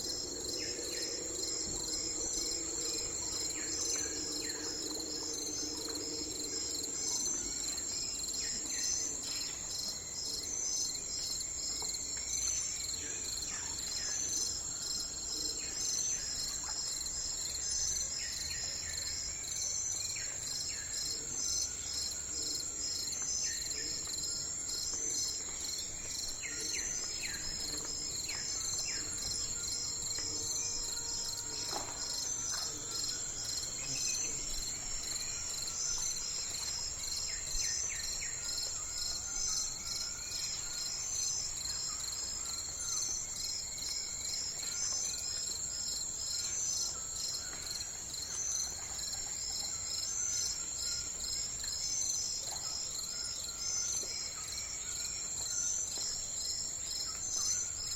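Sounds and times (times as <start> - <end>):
high insect chorus: 0.0 - 57.9.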